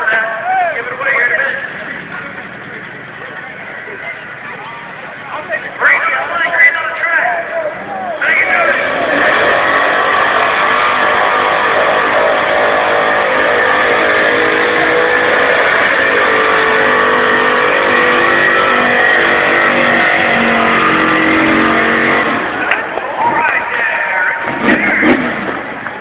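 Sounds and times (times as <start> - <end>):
vehicle engine at full throttle: 0.0 - 26.0.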